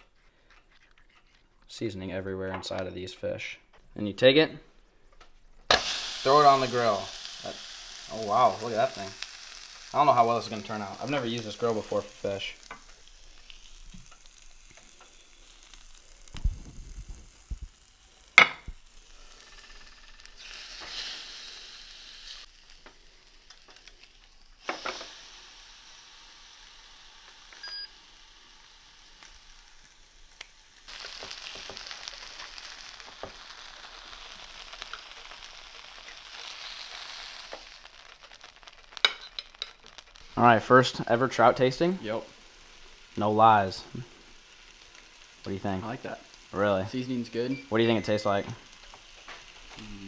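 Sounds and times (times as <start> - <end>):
fish sizzling on a contact grill: 5.7 - 50.0.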